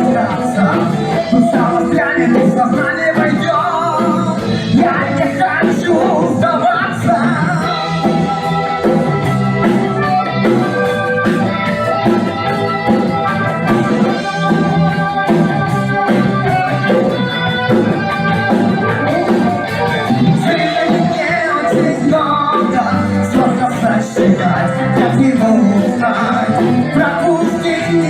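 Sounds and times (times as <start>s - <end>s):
band playing: 0.0s - 28.0s
person singing: 0.0s - 28.0s.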